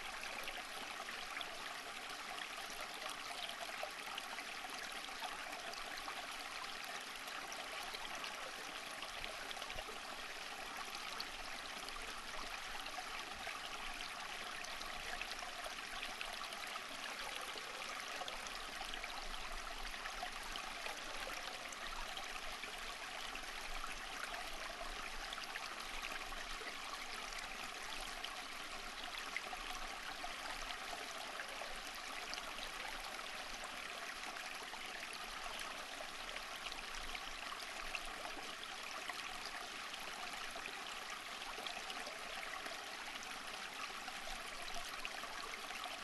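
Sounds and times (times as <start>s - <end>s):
stream water babbling: 0.0s - 46.0s.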